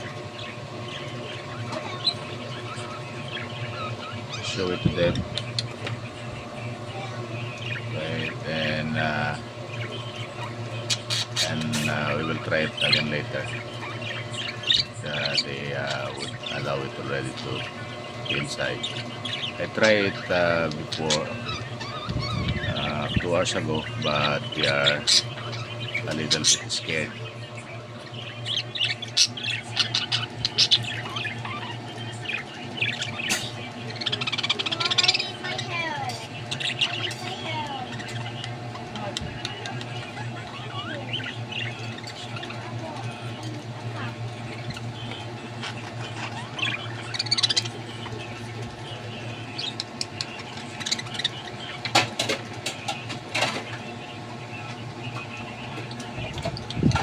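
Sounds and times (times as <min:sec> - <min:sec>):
budgerigars chirping and squawking: 0:00.0 - 0:57.0
steady low hum: 0:00.0 - 0:57.0.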